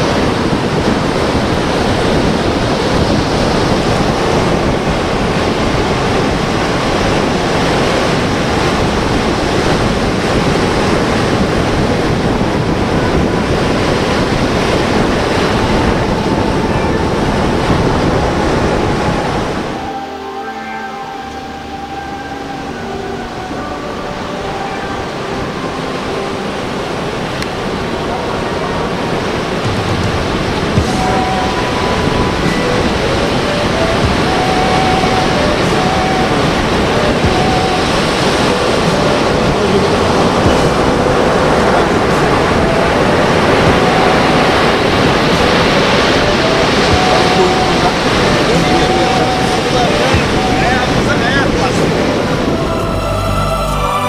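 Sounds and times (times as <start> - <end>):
surf breaking on beach: 0.0 - 52.9
soft background music: 0.0 - 54.0.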